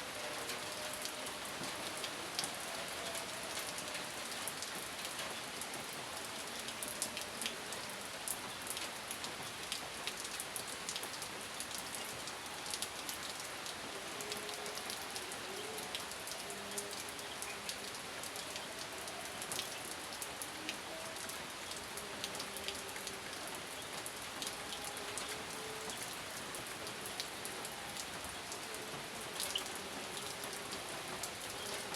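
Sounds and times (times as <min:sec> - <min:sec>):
raindrops ticking on a surface: 0:00.0 - 0:31.9
steady rain hiss: 0:00.0 - 0:31.9.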